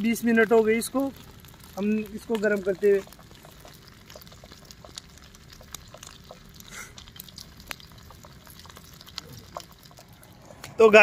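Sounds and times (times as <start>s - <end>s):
pops and crackles: 0.0s - 10.8s
hot oil bubbling and sizzling: 0.0s - 11.0s.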